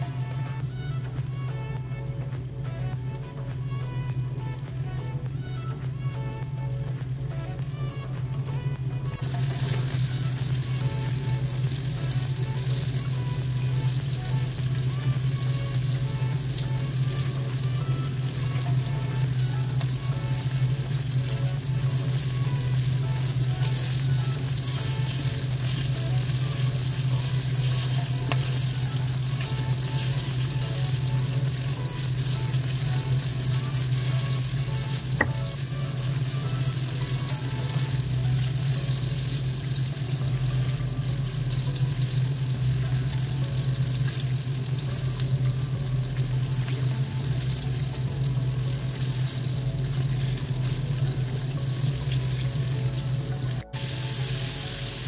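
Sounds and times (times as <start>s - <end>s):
constant low hum: 0.0s - 55.0s
pork deep-frying in oil: 0.0s - 55.0s.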